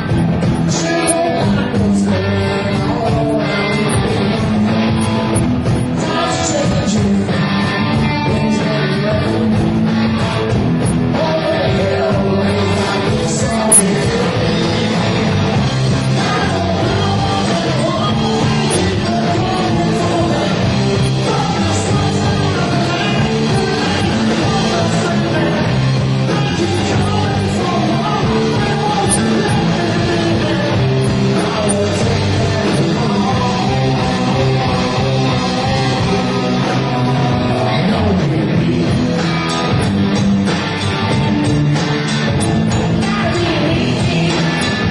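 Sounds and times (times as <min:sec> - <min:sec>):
drums: 0:00.0 - 0:44.9
electric guitar: 0:00.0 - 0:44.9
rock band playing live: 0:00.0 - 0:44.9.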